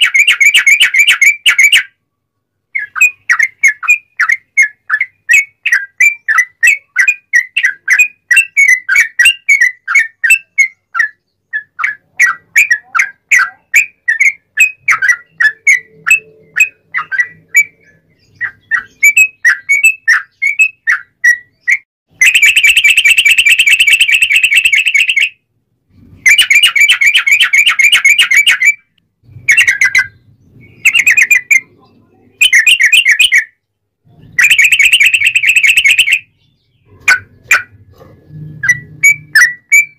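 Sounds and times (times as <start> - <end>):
bulbul singing: 0.0 - 2.0, 2.7 - 39.9.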